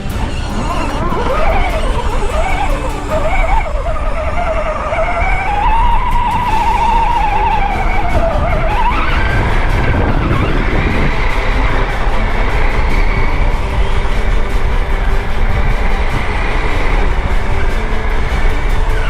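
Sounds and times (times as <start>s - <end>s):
electric motor whining: 0.0s - 19.0s
low rumble on rough ground: 0.0s - 19.0s.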